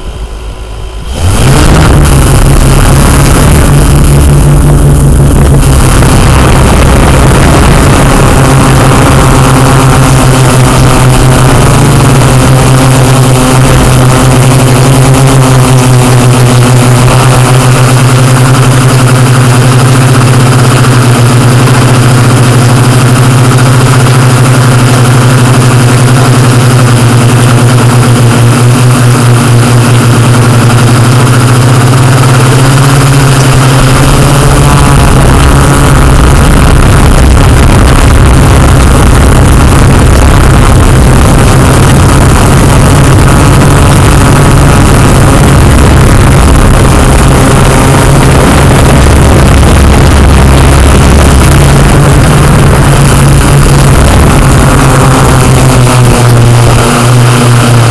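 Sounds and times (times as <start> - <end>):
drone motors humming: 0.0 - 57.9.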